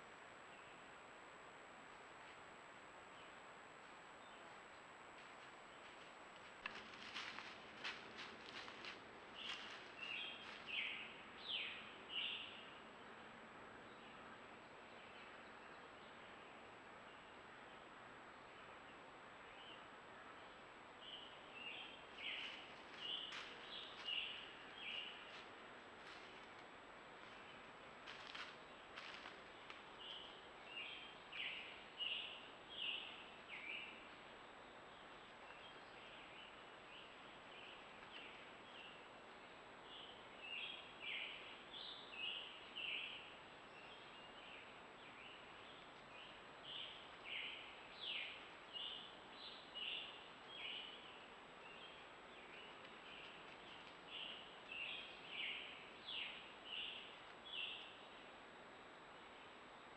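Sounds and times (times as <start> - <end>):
songbird singing: 0.0 - 1.1, 2.3 - 59.9
steady background hiss: 0.0 - 59.9.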